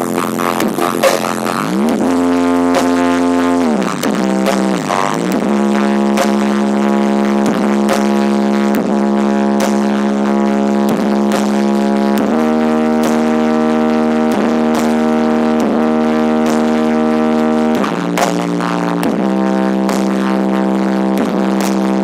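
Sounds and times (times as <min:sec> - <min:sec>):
buzzy held note: 0:00.0 - 0:22.0.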